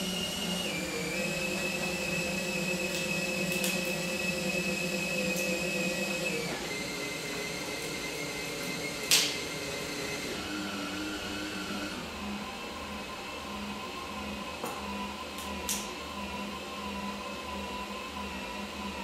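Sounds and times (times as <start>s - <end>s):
cordless drill motor whining: 0.0s - 19.0s.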